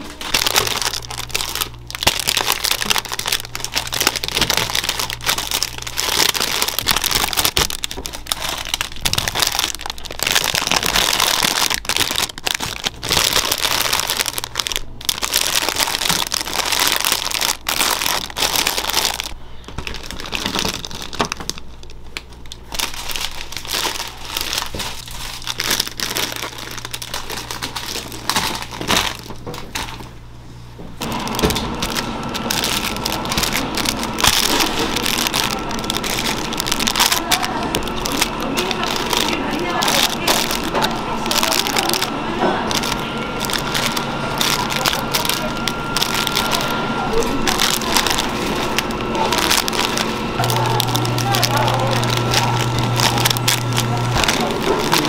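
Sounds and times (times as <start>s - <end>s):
cellophane bags crinkling: 0.0s - 30.2s, 31.0s - 55.0s.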